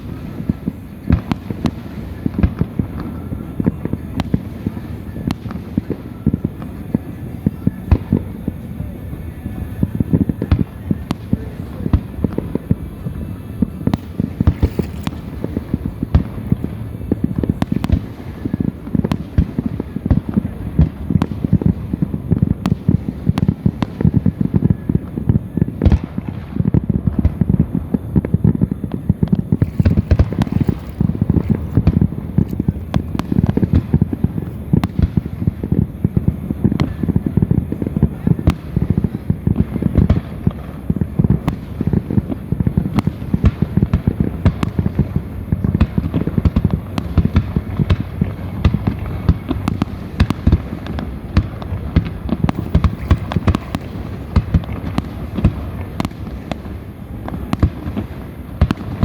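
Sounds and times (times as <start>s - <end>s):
deep firework booms: 0.0s - 59.0s
fireworks bangs and crackles: 0.0s - 59.0s.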